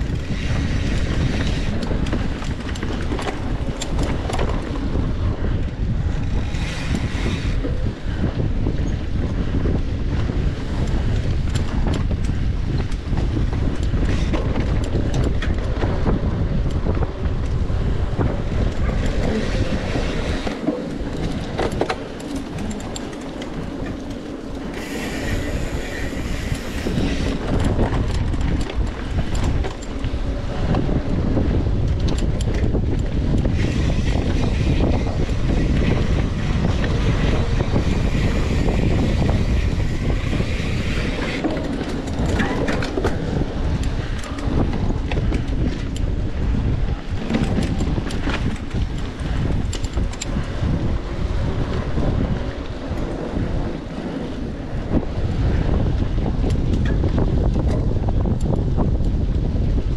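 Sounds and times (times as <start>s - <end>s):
mountain bike rattling on rough trail: 0.0s - 59.9s
small clicks and knocks from bike: 0.0s - 59.9s
wind buffeting microphone: 0.0s - 59.9s.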